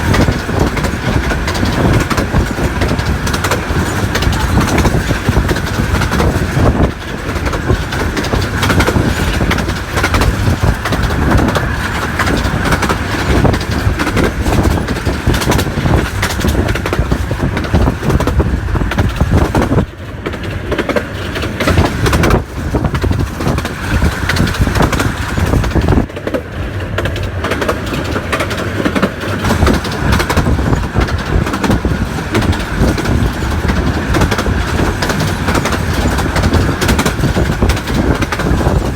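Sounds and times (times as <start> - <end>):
miniature train rumbling and clattering: 0.0 - 38.9.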